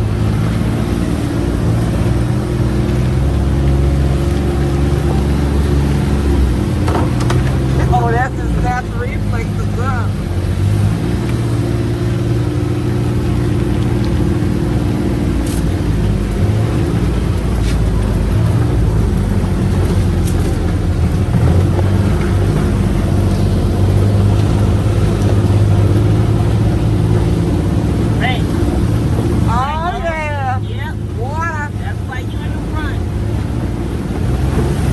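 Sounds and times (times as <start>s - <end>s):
utility vehicle engine running: 0.0s - 34.9s.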